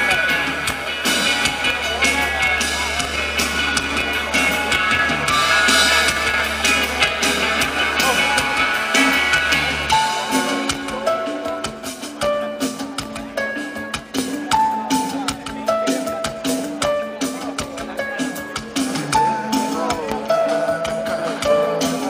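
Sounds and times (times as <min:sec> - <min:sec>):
bass guitar: 0:00.0 - 0:22.0
distorted electric guitars: 0:00.0 - 0:22.0
drums: 0:00.0 - 0:22.0.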